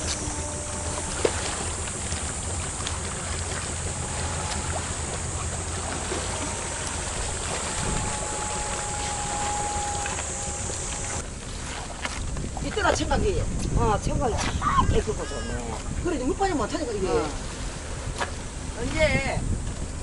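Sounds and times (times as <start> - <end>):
wind buffeting the microphone: 0.0 - 20.0.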